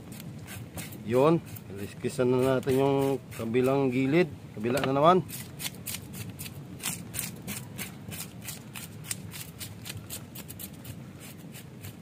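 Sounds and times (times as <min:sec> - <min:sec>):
knife scraping fish scales: 0:00.0 - 0:04.2, 0:05.2 - 0:12.0.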